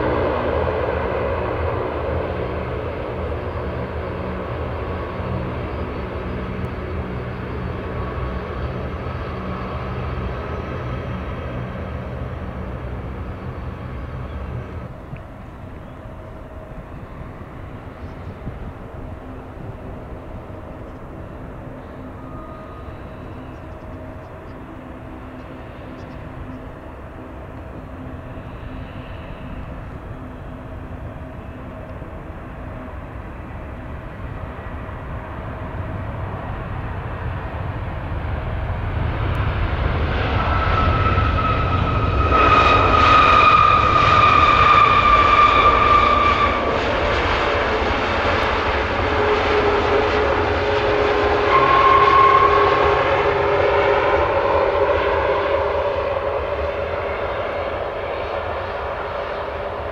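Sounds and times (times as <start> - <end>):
high engine whine: 0.0 - 59.9
jet engines roaring: 0.0 - 59.9.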